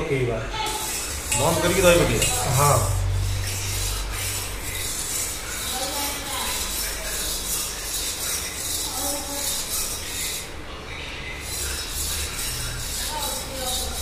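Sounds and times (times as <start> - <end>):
spoon scraping steel bowl: 0.7 - 10.6, 11.2 - 14.0.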